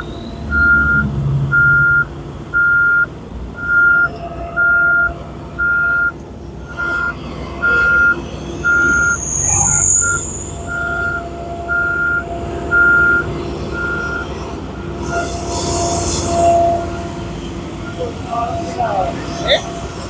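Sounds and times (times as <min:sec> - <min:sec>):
diesel engine running: 0:00.0 - 0:20.0
reversing alarm beeping: 0:00.0 - 0:20.0.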